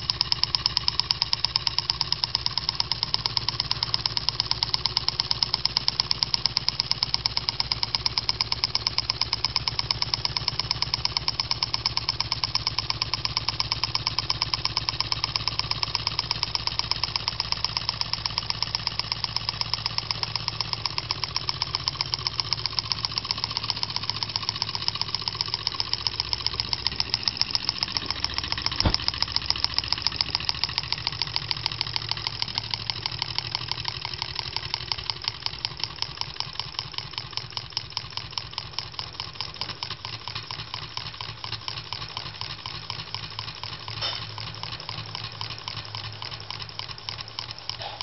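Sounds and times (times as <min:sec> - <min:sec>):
stirling engine ticking: 0:00.0 - 0:48.0.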